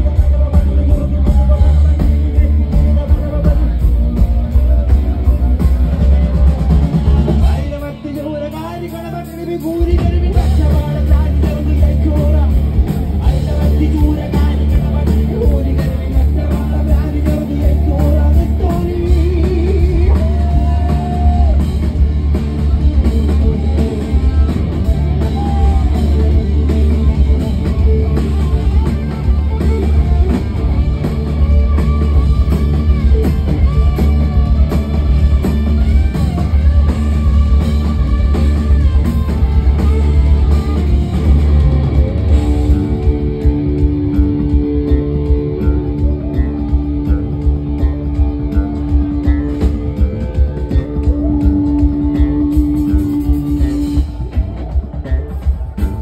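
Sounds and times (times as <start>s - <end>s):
drum kit: 0.0s - 56.0s
electric guitar: 0.0s - 56.0s
heavy bass line: 0.0s - 56.0s
person singing: 0.0s - 56.0s.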